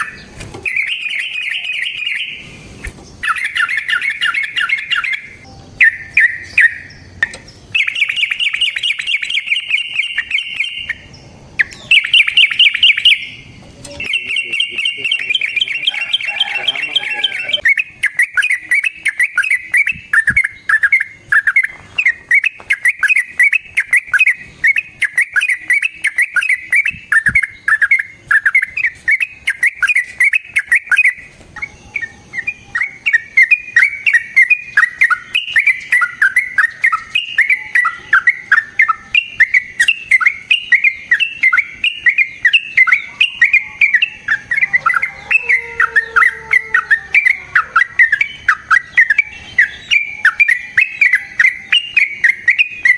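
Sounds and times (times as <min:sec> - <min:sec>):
bird chirping song: 0:00.0 - 0:52.9.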